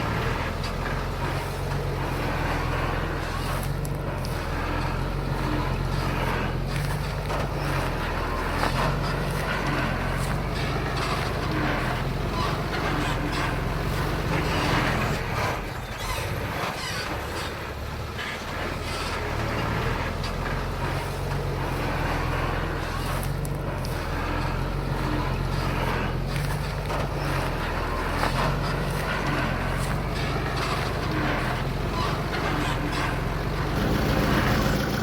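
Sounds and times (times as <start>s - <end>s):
heavy machinery diesel engine: 0.0s - 35.0s
machinery clatter: 0.0s - 35.0s.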